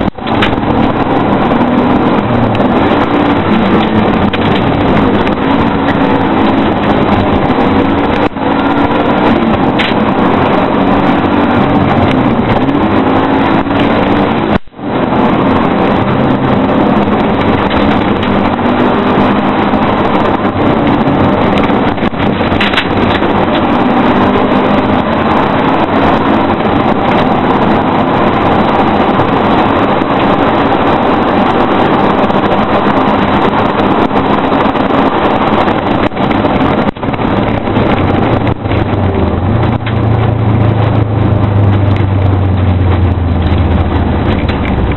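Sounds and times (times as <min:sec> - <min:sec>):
car engine driven hard: 0:00.0 - 0:44.9
wind and road noise: 0:00.0 - 0:44.9.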